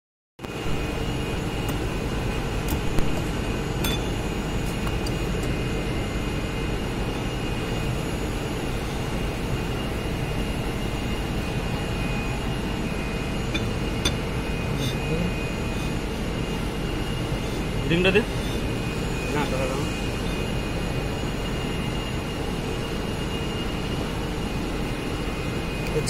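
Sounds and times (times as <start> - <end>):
machine running with whine: 0.4 - 26.0.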